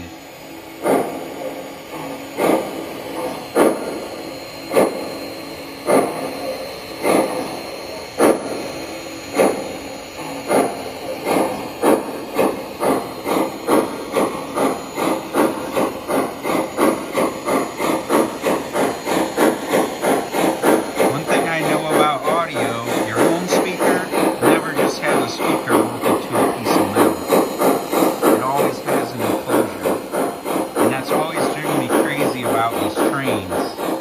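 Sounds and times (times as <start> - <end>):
steam locomotive chuffing from speaker: 0.0 - 34.0.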